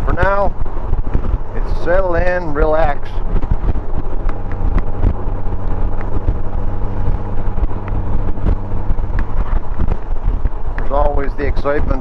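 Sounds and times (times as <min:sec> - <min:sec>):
motorcycle engine hum: 0:00.0 - 0:12.0
wind on microphone: 0:00.0 - 0:12.0.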